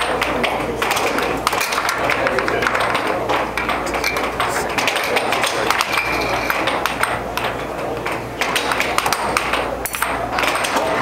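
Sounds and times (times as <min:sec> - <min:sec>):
air hockey puck clacking: 0:00.0 - 0:11.0
steady low hum: 0:00.0 - 0:11.0.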